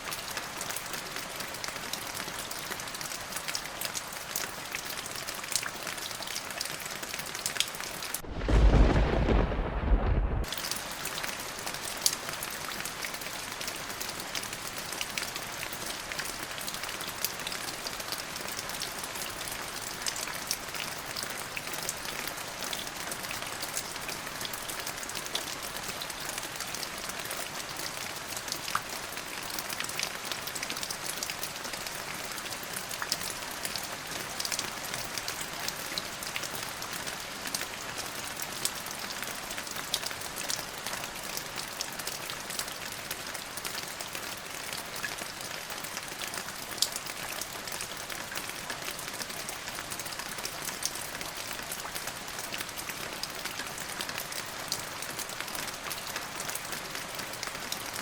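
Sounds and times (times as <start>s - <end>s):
rain drops pattering: 0.0s - 58.0s.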